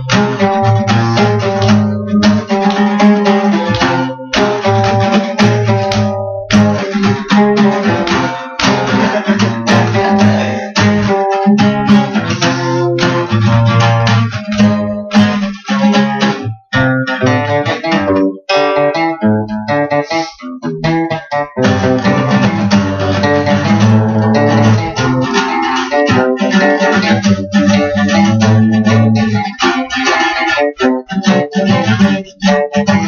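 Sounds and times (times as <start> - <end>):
strummed guitar chords: 0.0 - 33.0.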